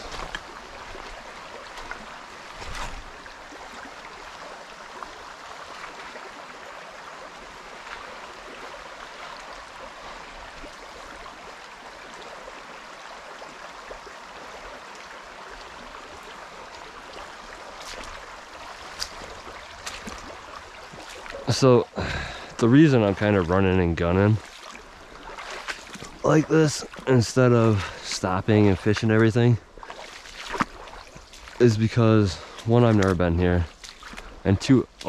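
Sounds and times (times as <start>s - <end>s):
creek running over stones: 0.0s - 35.0s.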